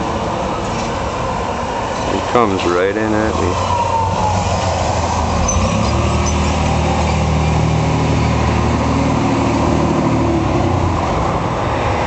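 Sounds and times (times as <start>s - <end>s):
low-flying plane engine: 0.0s - 12.0s.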